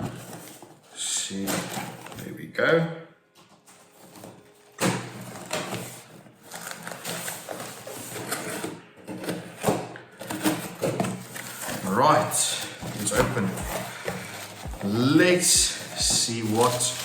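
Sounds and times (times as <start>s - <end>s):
packaging rustling and crackling: 0.0s - 2.3s, 3.4s - 17.0s.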